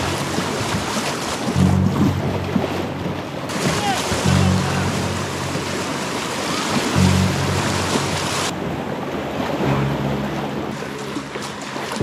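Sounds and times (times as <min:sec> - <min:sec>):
river water rushing and splashing: 0:00.0 - 0:12.0.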